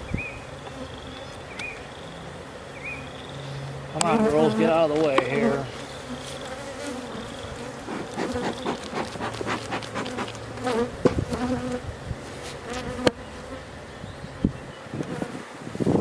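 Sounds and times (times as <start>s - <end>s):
honey bees buzzing: 0.4s - 14.3s.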